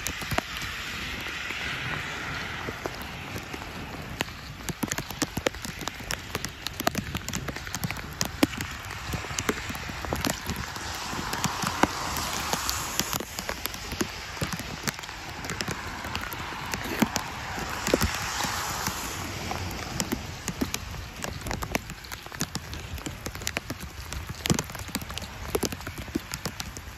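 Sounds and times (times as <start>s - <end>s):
rain hiss: 0.0s - 26.9s
raindrops ticking: 0.0s - 26.9s.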